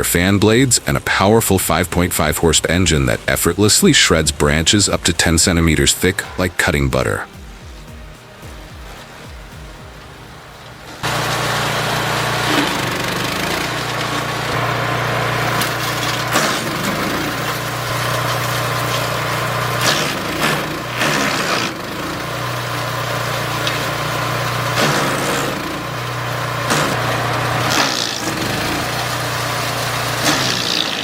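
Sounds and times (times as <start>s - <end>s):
wood chipper engine running: 0.0s - 31.0s.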